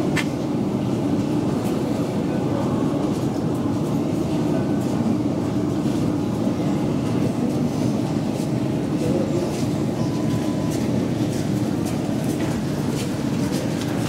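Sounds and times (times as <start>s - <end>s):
elevator low hum: 0.0s - 14.0s.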